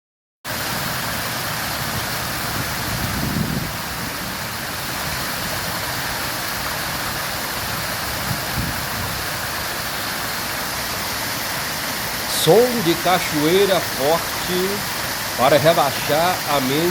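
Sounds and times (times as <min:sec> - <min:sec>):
waterfall rushing: 0:00.5 - 0:16.9.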